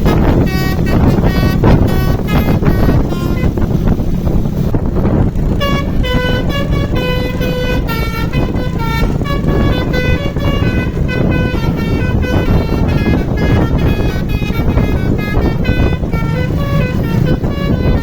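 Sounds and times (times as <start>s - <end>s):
bus engine rumble: 0.0s - 18.0s
musical bus horn melody: 0.0s - 18.0s.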